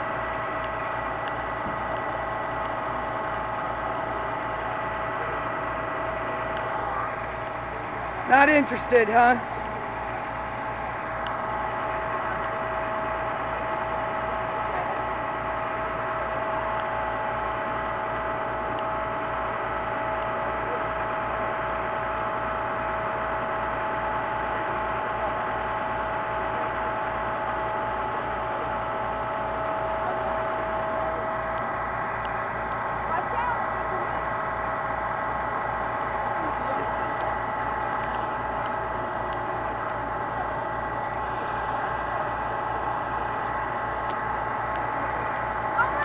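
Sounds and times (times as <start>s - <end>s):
electrical hum and whine: 0.0s - 46.0s.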